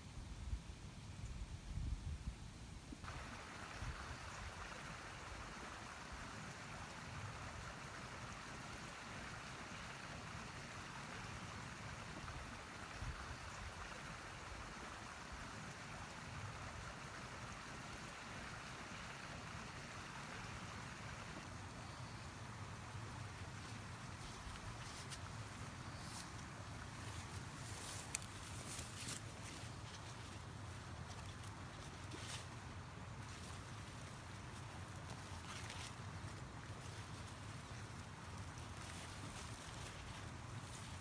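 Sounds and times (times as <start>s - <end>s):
hiss like running water: 3.0s - 41.0s.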